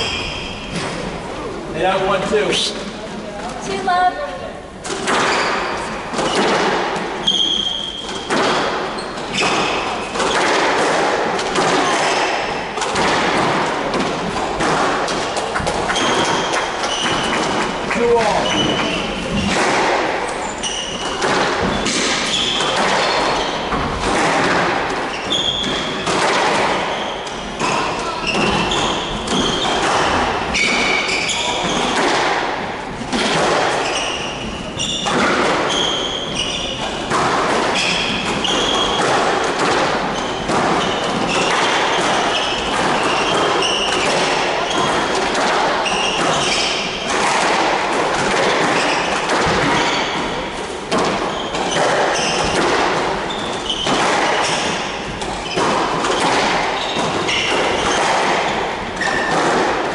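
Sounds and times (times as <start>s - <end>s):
shoes squeaking on wooden floor: 0.0s - 1.0s, 5.1s - 10.9s, 11.5s - 32.0s, 33.6s - 47.4s, 48.2s - 59.9s
squash ball struck by rackets: 4.8s - 59.9s.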